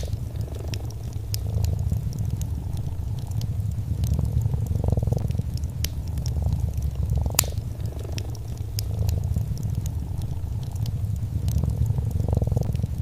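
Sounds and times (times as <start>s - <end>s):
cat purring: 0.0s - 13.0s
wood fire crackling: 0.0s - 13.0s.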